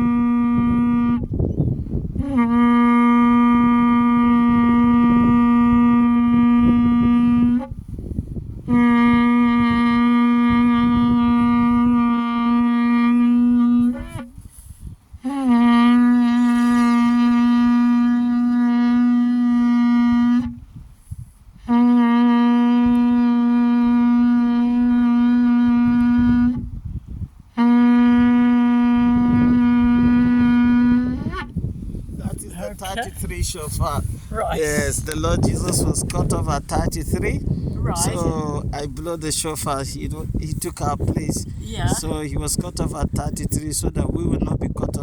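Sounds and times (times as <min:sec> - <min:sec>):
shofar blasts: 0:00.0 - 0:01.3, 0:02.2 - 0:07.8, 0:08.6 - 0:20.6, 0:21.6 - 0:26.7, 0:27.5 - 0:31.6, 0:32.6 - 0:42.8.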